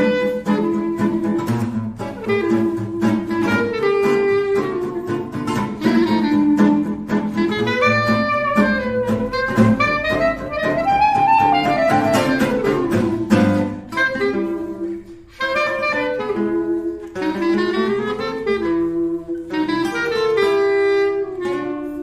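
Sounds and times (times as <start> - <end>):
guitar: 0.0 - 22.0
reed instrument melody: 0.0 - 22.0.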